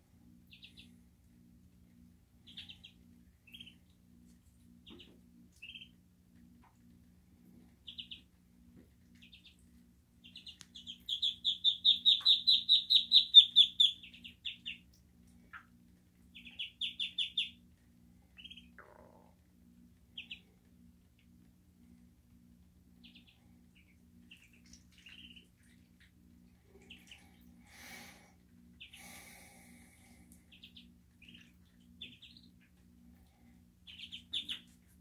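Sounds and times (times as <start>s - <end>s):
ducklings peeping: 0.4s - 1.2s, 2.3s - 17.7s, 18.3s - 19.4s, 20.0s - 22.2s, 22.8s - 35.0s.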